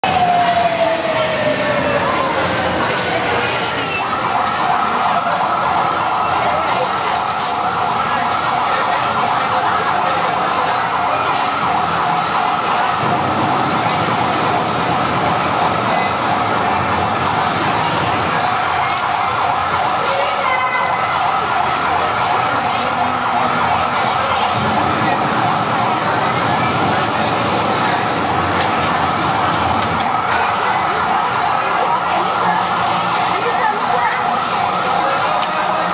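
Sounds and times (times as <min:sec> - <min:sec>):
electronic siren warbling: 0:00.0 - 0:35.9
water spraying from hoses: 0:00.1 - 0:35.9.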